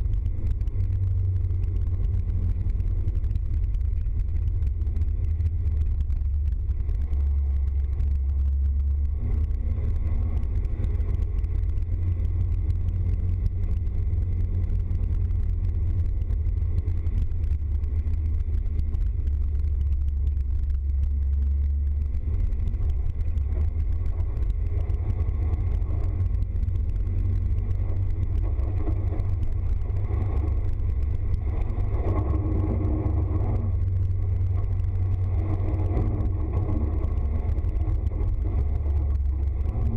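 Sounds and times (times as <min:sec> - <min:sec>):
van engine and tyre drone: 0:00.0 - 0:39.9.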